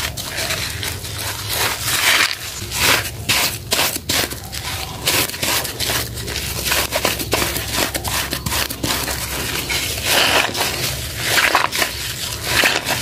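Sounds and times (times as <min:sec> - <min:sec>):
soapy sponge squelching in water: 0:00.0 - 0:13.0.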